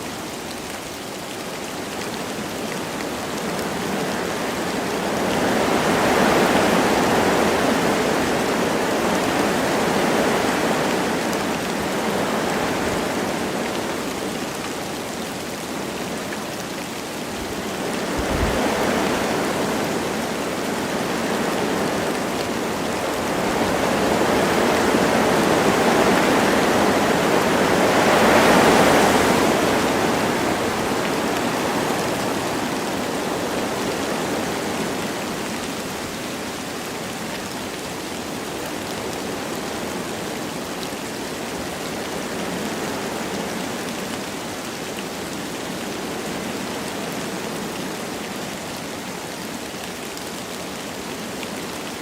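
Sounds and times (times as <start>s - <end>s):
light rain: 0.0s - 52.0s
wind blowing through trees: 0.0s - 52.0s.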